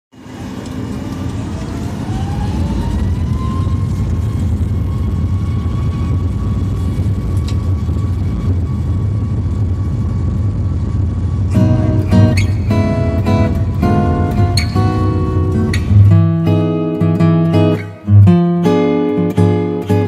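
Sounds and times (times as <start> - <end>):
loud low engine rumble: 0.1 - 18.6
jet engine whine: 0.1 - 20.0.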